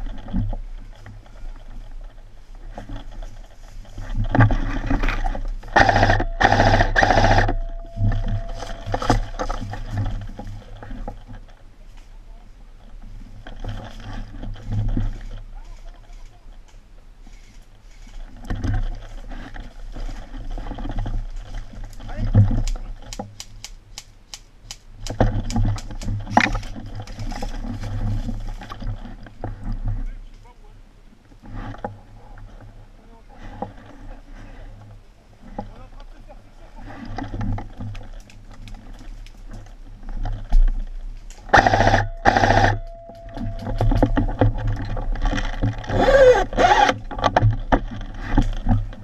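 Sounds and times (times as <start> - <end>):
rustling through undergrowth: 0.0 - 49.0.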